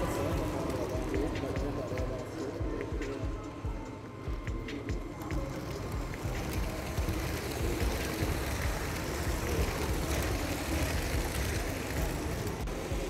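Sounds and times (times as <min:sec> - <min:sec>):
toy train wheels rumbling on track: 0:00.0 - 0:13.0.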